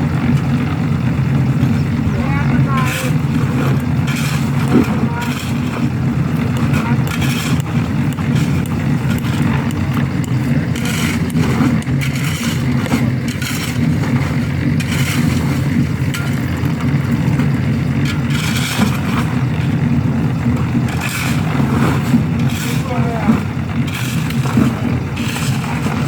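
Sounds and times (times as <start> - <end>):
construction machine engine running: 0.0 - 26.0
scraping and clatter: 0.0 - 26.0.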